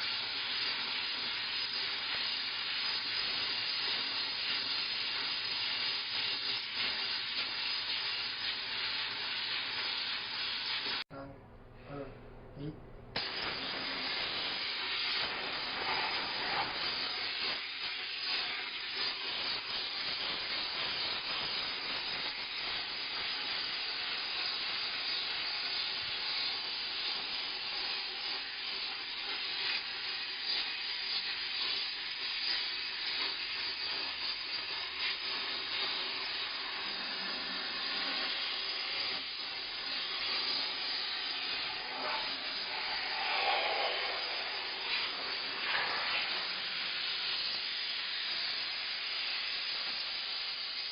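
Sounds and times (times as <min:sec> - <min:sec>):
steam mop hissing: 0:00.0 - 0:11.1, 0:13.2 - 0:50.9.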